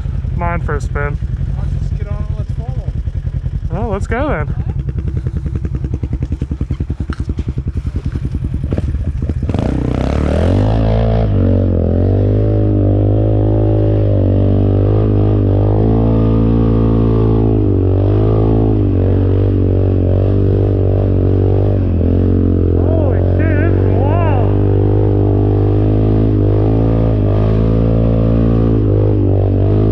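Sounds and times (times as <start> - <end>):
atv engine idling and revving: 0.0 - 29.9.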